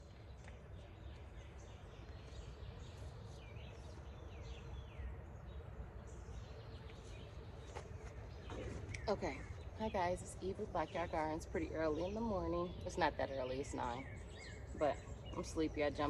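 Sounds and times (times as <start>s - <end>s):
faint birdsong: 0.0s - 16.0s
low outdoor rumble: 0.0s - 16.0s.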